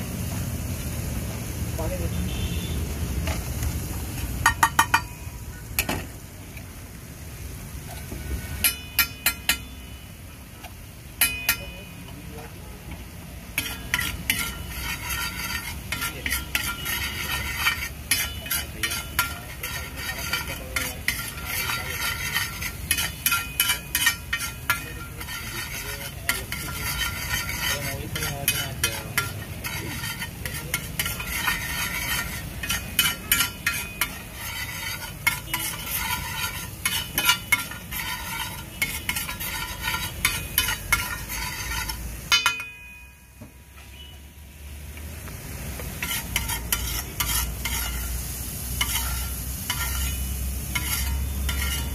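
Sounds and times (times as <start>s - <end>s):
egg mixture sizzling: 0.0s - 51.9s
metal spatula striking griddle: 4.3s - 6.2s, 7.9s - 10.0s, 10.6s - 12.5s, 13.4s - 44.1s, 45.9s - 51.9s.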